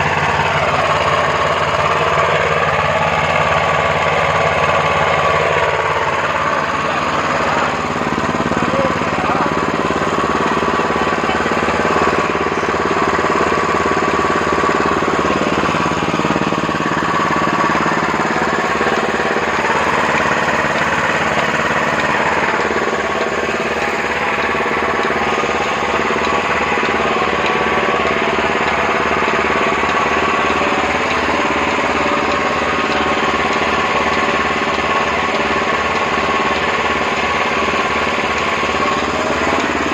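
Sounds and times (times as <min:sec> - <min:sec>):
petrol engine running steadily: 0:00.0 - 0:39.9.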